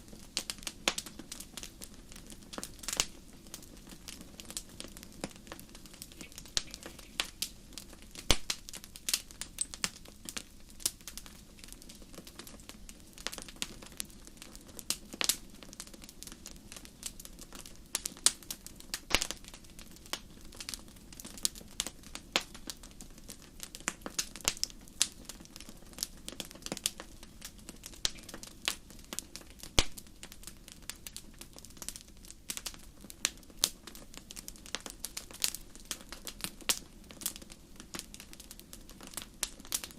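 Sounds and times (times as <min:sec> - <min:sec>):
faint low hiss: 0:00.0 - 0:39.9
fire crackling: 0:00.0 - 0:39.9.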